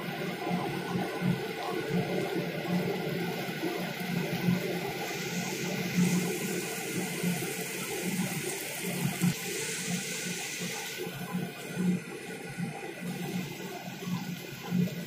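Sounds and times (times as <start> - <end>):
rushing splashing water: 0.4 - 15.0.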